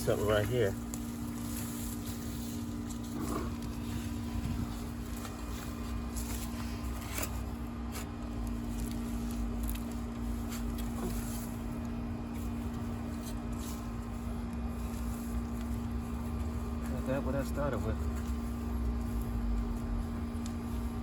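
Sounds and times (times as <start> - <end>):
low mechanical hum: 0.0 - 21.0
soil being dug by hand: 0.0 - 21.0.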